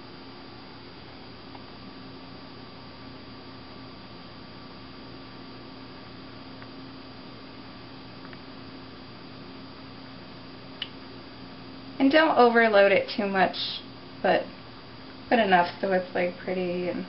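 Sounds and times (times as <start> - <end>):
electrical hum with hiss: 0.0 - 17.0.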